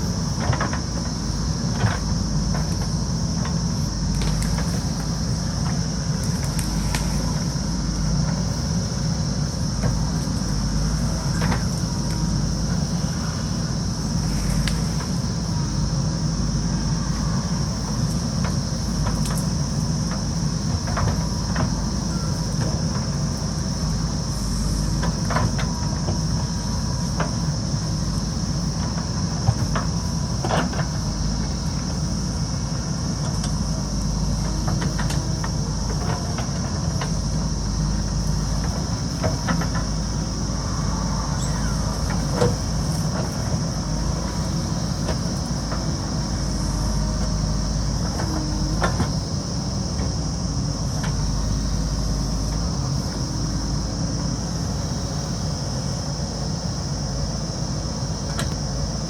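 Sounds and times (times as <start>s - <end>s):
diesel engine running: 0.0s - 59.0s
high-pitched hiss: 3.7s - 59.0s.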